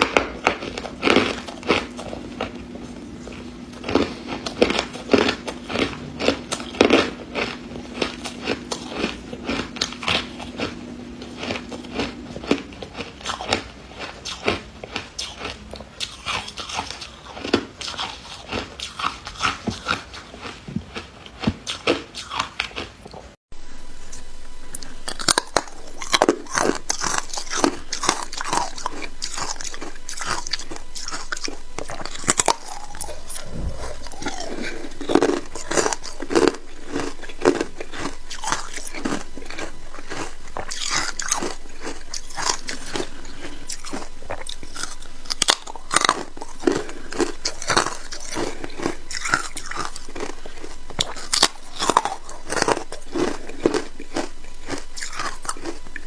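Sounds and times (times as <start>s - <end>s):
person crunching ice: 0.0s - 22.4s, 24.8s - 55.9s.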